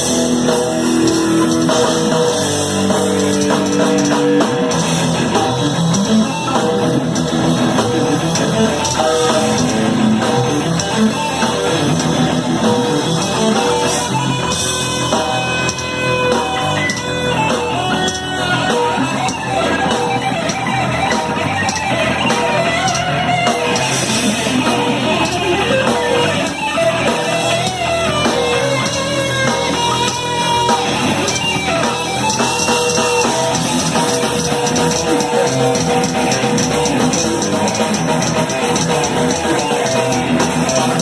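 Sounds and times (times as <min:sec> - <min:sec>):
distorted electric guitars: 0:00.0 - 0:41.0
drum kit: 0:00.0 - 0:41.0.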